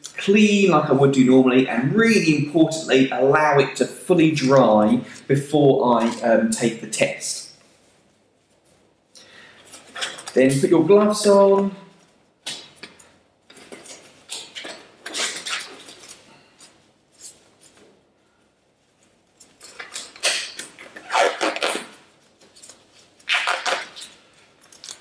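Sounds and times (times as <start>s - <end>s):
gloves rustling and stretching: 0.0s - 25.0s.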